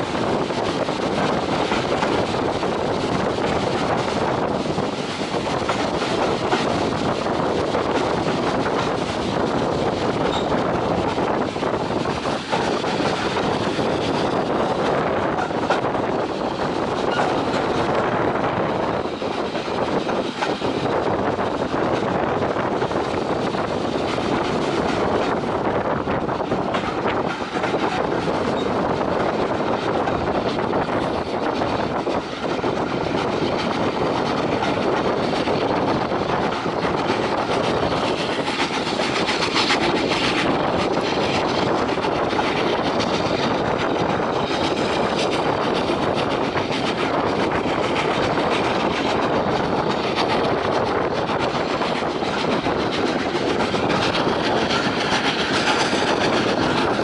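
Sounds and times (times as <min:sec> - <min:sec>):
train wheels on rail: 0:00.0 - 0:57.0.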